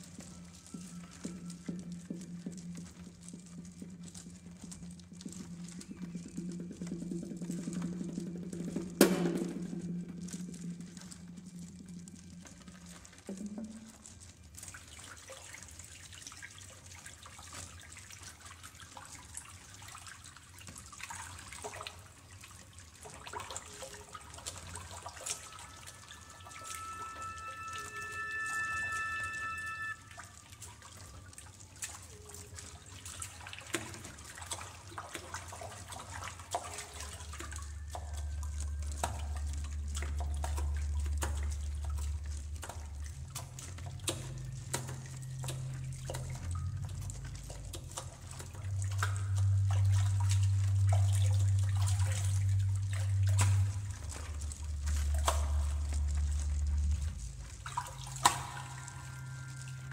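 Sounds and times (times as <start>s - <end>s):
low held drone notes: 0.0s - 14.7s, 23.0s - 59.9s
water drips and trickling: 0.0s - 59.9s.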